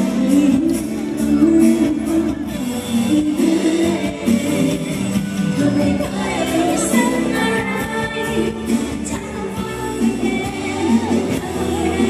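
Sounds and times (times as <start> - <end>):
live band music: 0.0 - 12.0
woman singing through microphone: 0.0 - 12.0.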